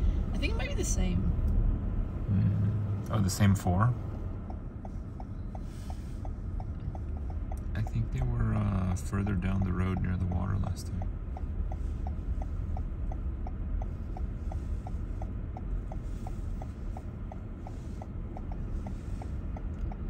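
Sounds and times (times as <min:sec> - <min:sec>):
car engine hum: 0:00.0 - 0:20.0
car indicator ticking: 0:02.6 - 0:20.0.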